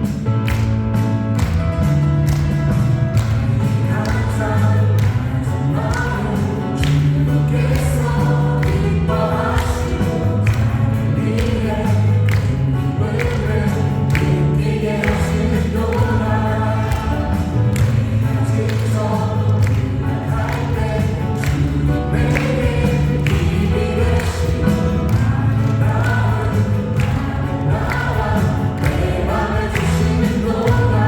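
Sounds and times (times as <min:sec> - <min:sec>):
keyboards: 0:00.0 - 0:31.0
steady drum beat: 0:00.0 - 0:31.0
voices singing together: 0:02.8 - 0:31.0.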